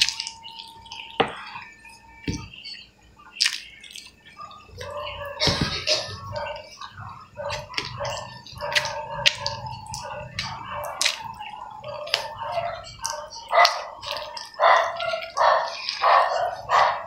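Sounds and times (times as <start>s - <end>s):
person chewing with wet smacks: 0.0s - 17.0s.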